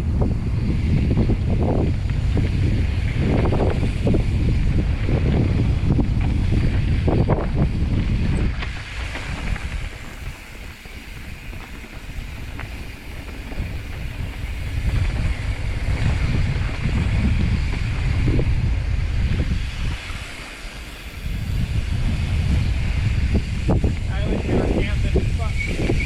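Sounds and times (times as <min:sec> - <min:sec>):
bike tyres rumbling on dirt: 0:00.0 - 0:26.0
wind buffeting microphone: 0:00.0 - 0:26.0.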